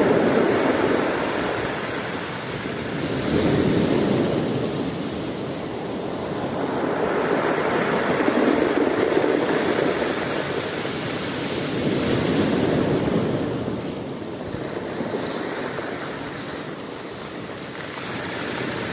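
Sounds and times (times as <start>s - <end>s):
sea waves washing up shore: 0.0s - 18.9s.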